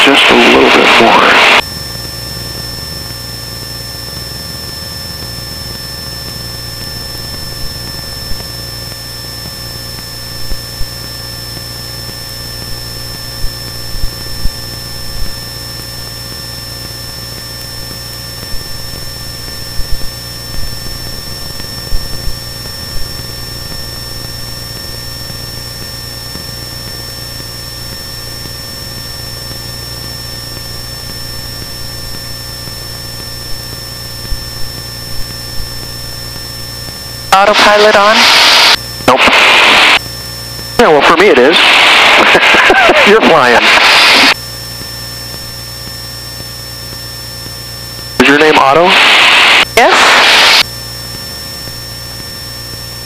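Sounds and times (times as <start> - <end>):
airplane engine and propeller drone: 0.0 - 53.0.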